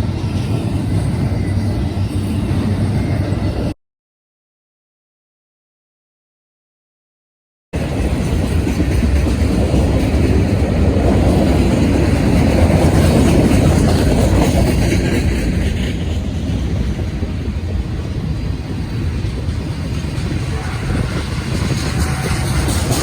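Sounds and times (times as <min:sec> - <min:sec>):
train passing rumble: 0:00.0 - 0:03.8, 0:07.8 - 0:23.0.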